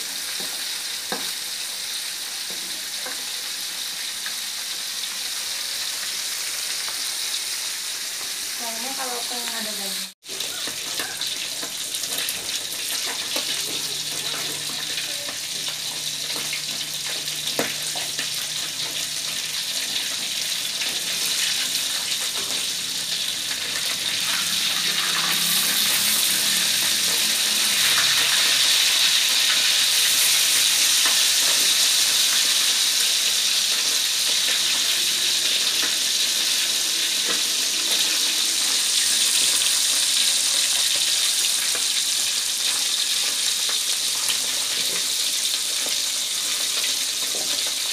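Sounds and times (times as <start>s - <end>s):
fish frying in hot oil: 0.0s - 47.9s.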